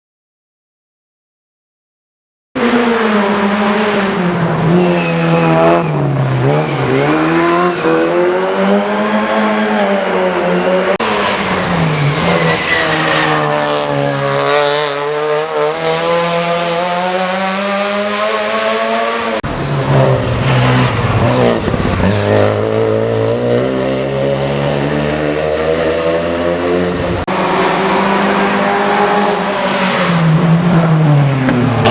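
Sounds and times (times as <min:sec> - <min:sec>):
race car engine at high revs: 0:02.6 - 0:31.9.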